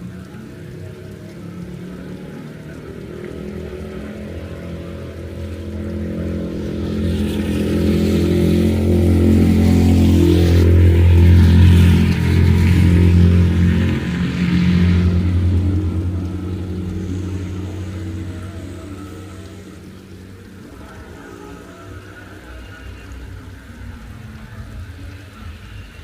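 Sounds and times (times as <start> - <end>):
motor vehicle engine hum: 0.0 - 26.0
tyre hiss of passing vehicle: 0.0 - 26.0.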